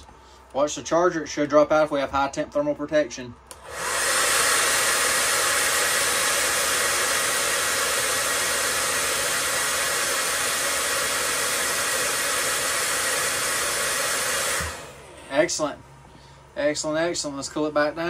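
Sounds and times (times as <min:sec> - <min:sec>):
hot-air blower running: 0:03.5 - 0:18.0.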